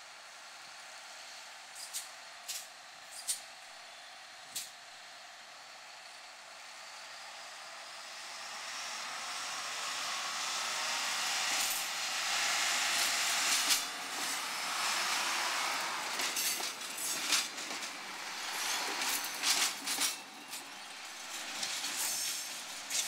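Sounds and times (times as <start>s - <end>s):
diesel railcar passing: 4.2s - 23.0s.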